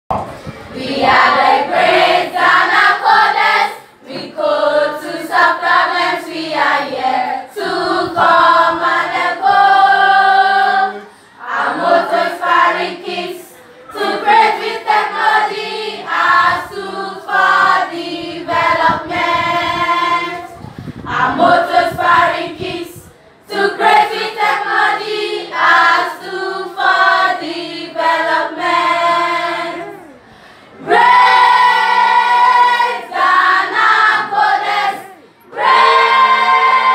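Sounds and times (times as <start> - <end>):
girls choir singing an anthem: 0.7 - 30.2, 30.8 - 36.9.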